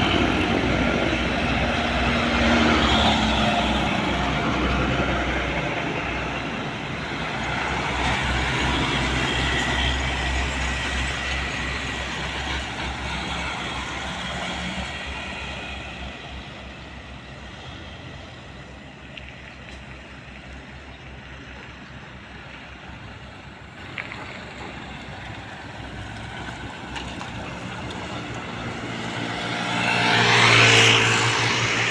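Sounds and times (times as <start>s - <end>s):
heavy trucks passing: 0.0s - 31.9s.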